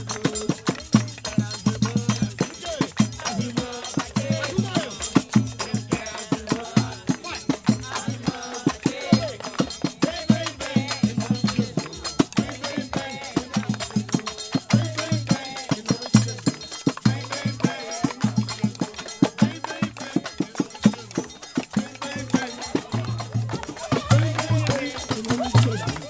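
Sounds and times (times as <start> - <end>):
upbeat music with percussion beat: 0.0 - 26.0.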